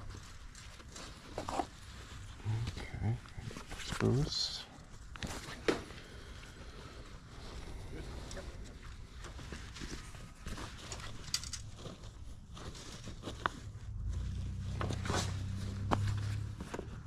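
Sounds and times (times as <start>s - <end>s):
fabric caps rustling: 0.0s - 17.0s.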